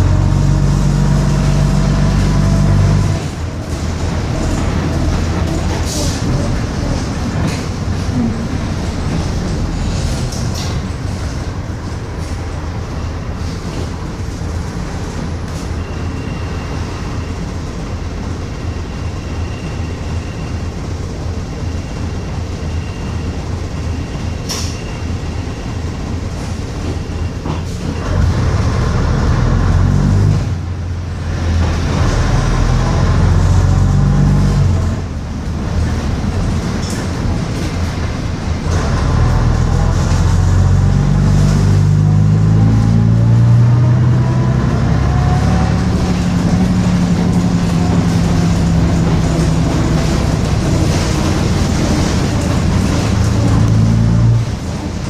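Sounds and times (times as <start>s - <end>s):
bus body rattling: 0.0s - 55.0s
bus engine running: 0.0s - 55.0s.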